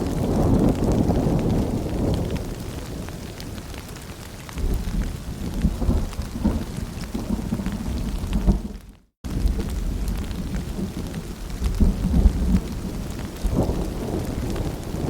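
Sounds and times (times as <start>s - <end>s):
low rumble of thunder: 0.0s - 15.0s
rain falling: 0.0s - 15.0s.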